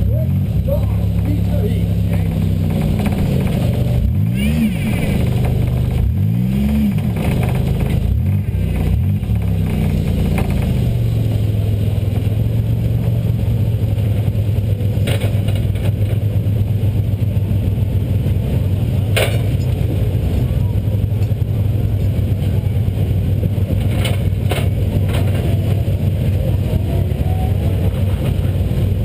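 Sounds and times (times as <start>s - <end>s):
car engine idling: 0.0s - 29.0s
car engine revving: 0.0s - 29.0s.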